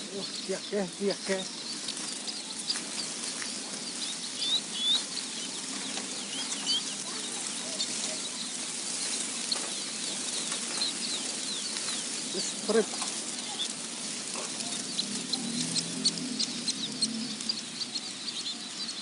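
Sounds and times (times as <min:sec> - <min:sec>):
small birds chirping: 0:00.0 - 0:19.0
steady hiss: 0:00.0 - 0:19.0.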